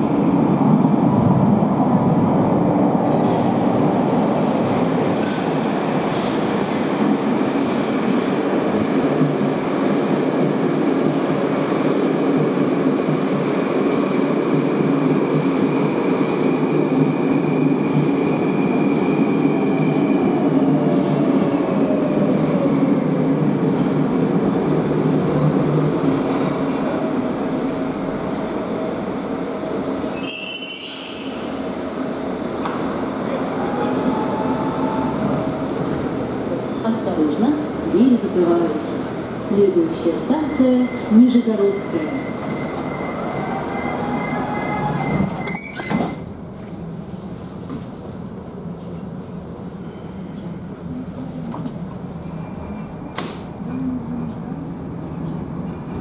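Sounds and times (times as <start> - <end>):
metro train rumbling: 0.0 - 56.0.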